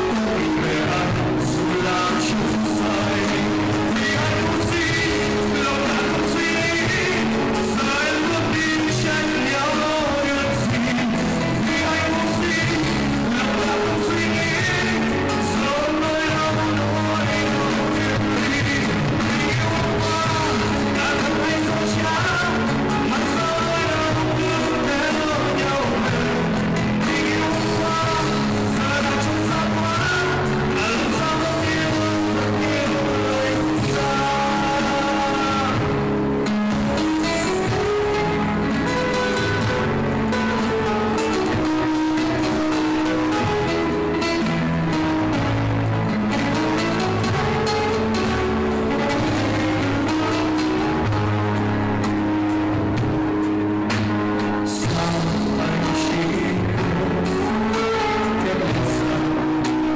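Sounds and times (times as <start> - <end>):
man singing into a microphone: 0.0 - 52.6, 53.8 - 59.9
drum kit: 0.0 - 59.9
live band playing: 0.0 - 59.9.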